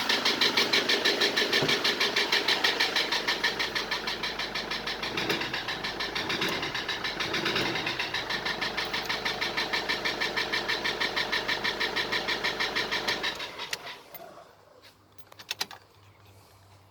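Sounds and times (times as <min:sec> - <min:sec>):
diesel engine knocking idle: 0:00.0 - 0:13.7.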